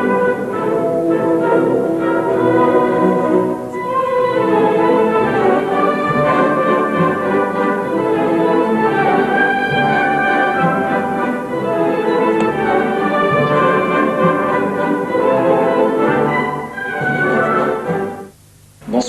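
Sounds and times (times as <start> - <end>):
orchestral classical music: 0.0 - 18.4.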